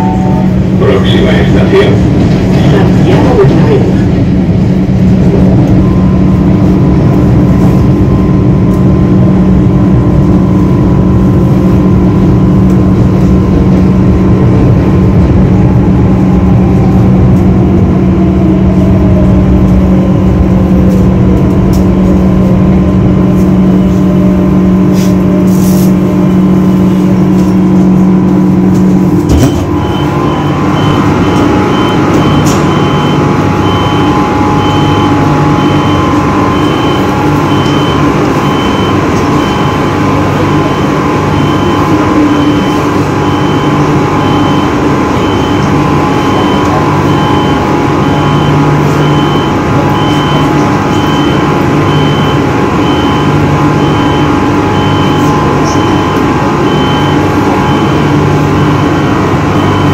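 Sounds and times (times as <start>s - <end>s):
falling whine of braking train: 0.0s - 59.9s
train traction hum: 0.0s - 59.9s.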